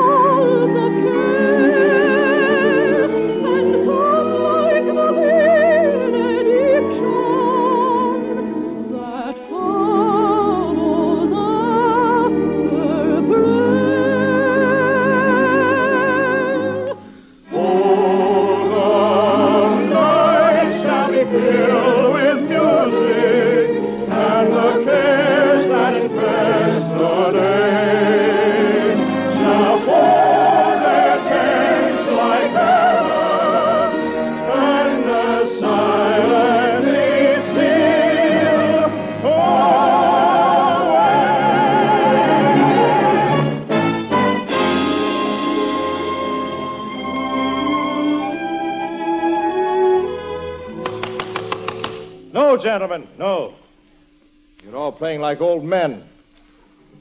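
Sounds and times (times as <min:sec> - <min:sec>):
orchestral accompaniment: 0:00.0 - 0:53.5
operatic singing with vibrato: 0:00.0 - 0:53.9.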